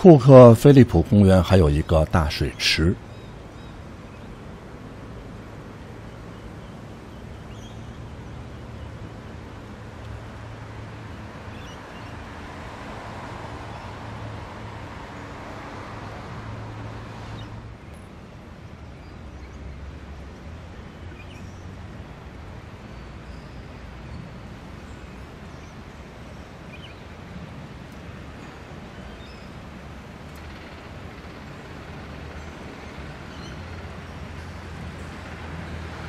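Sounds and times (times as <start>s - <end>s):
low city hum and hiss: 0.0s - 36.0s.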